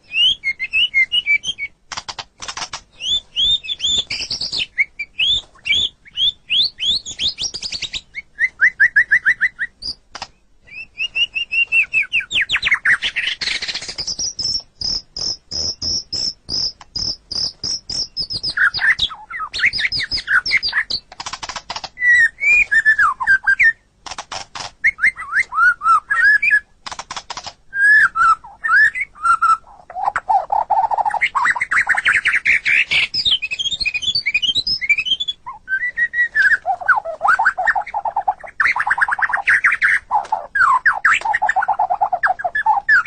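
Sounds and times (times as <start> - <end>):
bird singing varied song: 0.0 - 43.0.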